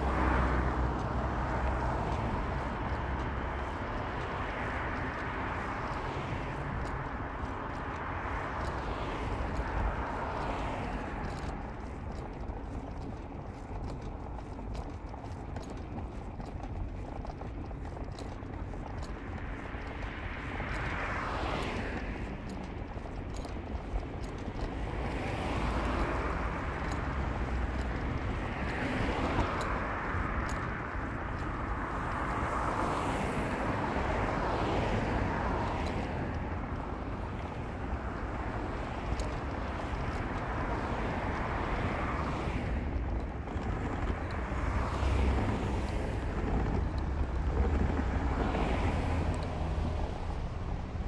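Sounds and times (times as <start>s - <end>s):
car driving road and engine noise: 0.0s - 51.0s.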